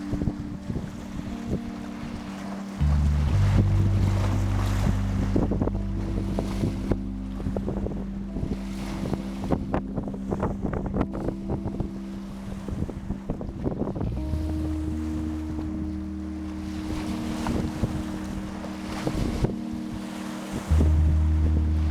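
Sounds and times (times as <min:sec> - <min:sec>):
sea waves washing in: 0:00.0 - 0:21.9
wind buffeting microphone: 0:00.0 - 0:21.9
steady low hum: 0:02.7 - 0:21.9.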